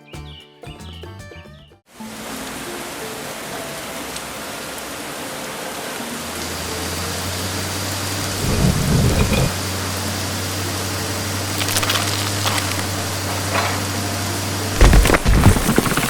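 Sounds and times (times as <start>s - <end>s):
heavy rain hissing: 2.3s - 16.0s.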